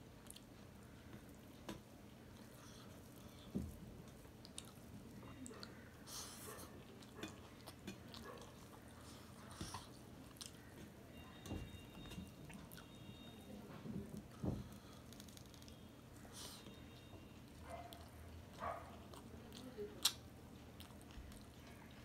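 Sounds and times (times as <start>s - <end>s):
chewing with wet mouth smacks: 0.2s - 13.3s, 16.4s - 22.0s.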